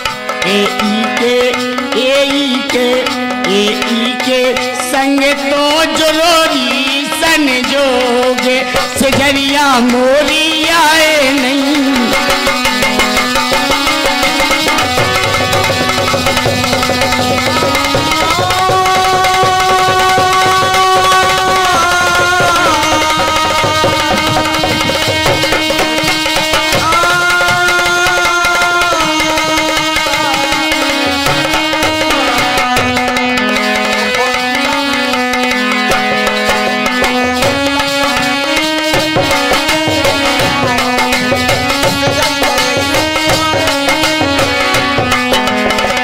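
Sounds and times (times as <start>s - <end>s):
hand drum rhythm: 0.0s - 46.0s
harmonium melody: 0.0s - 46.0s.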